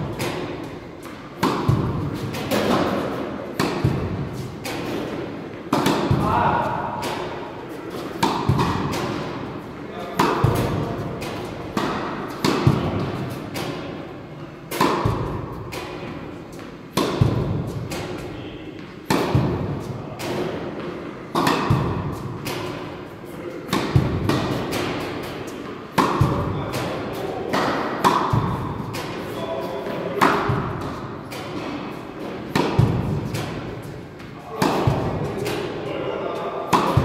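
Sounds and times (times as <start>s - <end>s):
tennis racket hitting balls: 0.0s - 37.0s.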